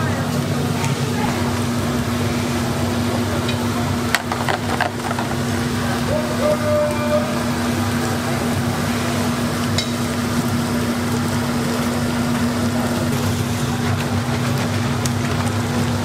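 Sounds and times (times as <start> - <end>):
fritters sizzling in deep-frying oil: 0.0 - 6.1, 7.4 - 16.0.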